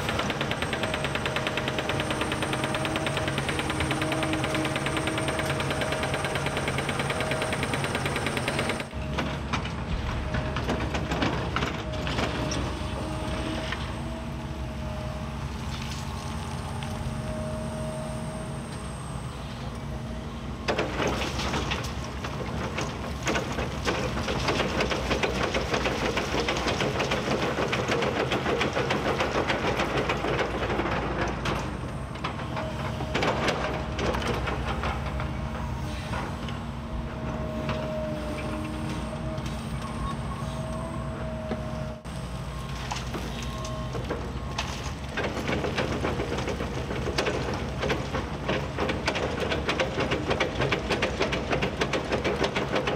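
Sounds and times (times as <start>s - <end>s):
excavator engine and hydraulics whine: 0.0s - 52.9s.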